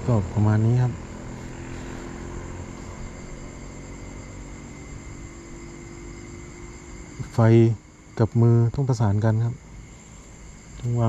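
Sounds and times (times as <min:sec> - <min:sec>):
insects chirring: 0:00.0 - 0:11.0
low steady rumble: 0:00.0 - 0:11.0.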